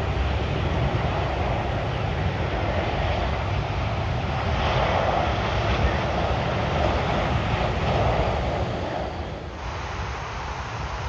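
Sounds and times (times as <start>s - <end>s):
jet airliner roar: 0.0s - 11.0s.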